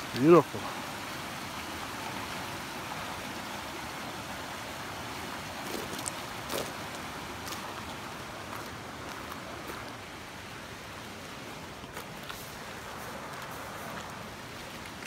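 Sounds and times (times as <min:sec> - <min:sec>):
creek rushing: 0:00.0 - 0:15.0.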